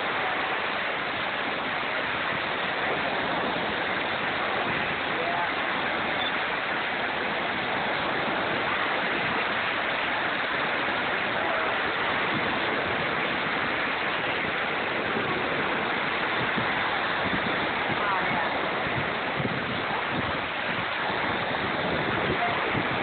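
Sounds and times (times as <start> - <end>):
waves washing up on beach: 0.0 - 23.0.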